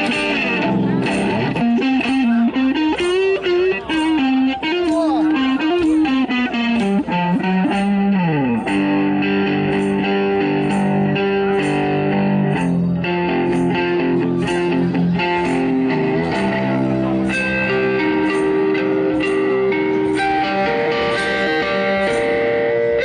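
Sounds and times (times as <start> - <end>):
electric blues guitar: 0.0 - 23.0
faint percussion ticks: 0.0 - 23.0.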